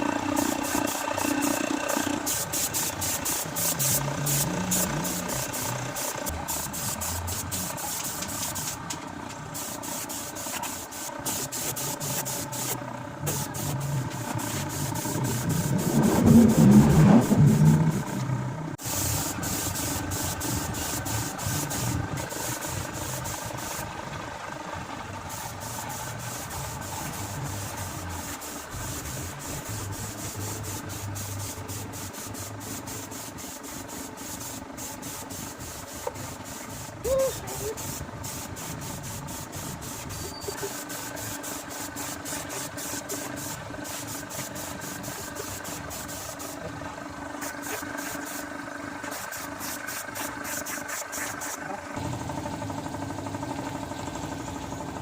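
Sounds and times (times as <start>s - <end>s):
steady hum: 0.0s - 53.7s.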